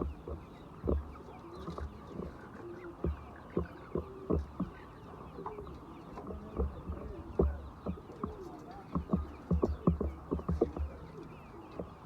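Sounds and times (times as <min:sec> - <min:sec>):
chickens making short low knocks: 0:00.0 - 0:12.0.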